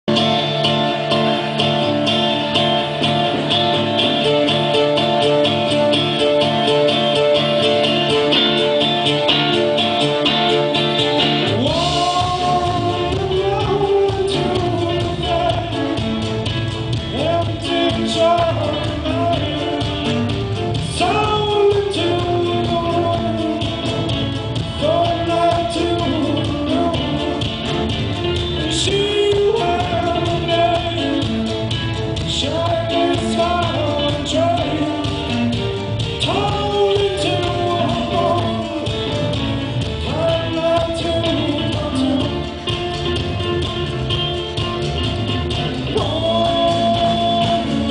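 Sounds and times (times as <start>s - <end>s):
live band with drums: 0.0s - 47.9s
strummed acoustic guitar: 0.1s - 47.9s
man singing: 2.6s - 44.0s, 44.8s - 47.9s.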